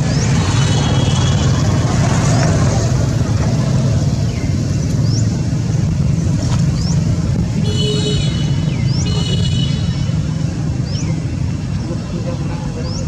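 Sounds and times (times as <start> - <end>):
motor traffic rumble: 0.0 - 13.0.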